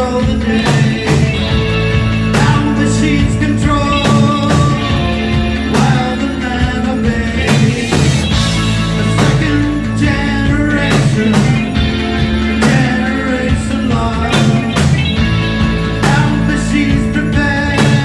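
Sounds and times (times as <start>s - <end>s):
rock band playing loudly: 0.0s - 18.0s
drum hits: 0.3s - 16.5s.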